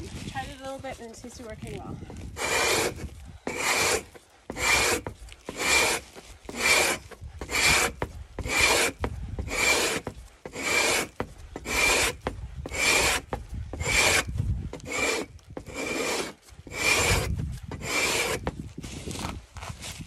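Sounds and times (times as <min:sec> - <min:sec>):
scraper rasping on hide: 0:00.0 - 0:20.0.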